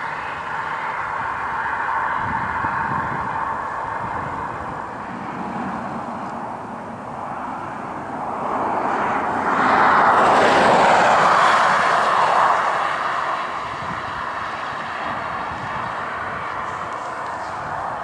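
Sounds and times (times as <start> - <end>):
pickup truck passing: 0.0 - 18.0.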